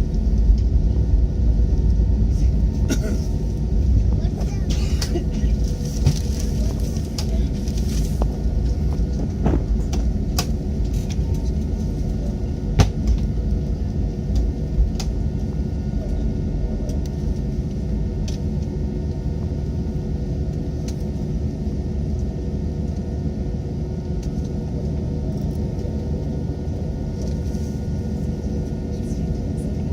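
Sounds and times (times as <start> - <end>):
jet engines rumbling in cabin: 0.0 - 29.9.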